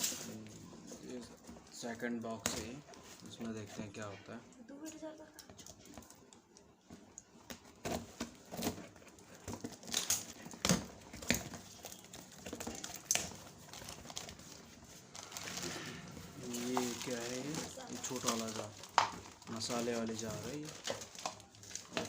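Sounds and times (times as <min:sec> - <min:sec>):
packing crinkling and rustling: 0:00.0 - 0:22.0.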